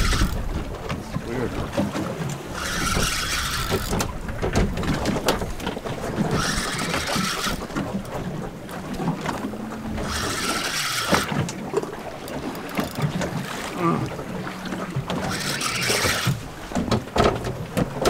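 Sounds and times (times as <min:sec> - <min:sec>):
water washing against hull: 0:00.0 - 0:18.0
wind buffeting microphone: 0:00.0 - 0:18.0.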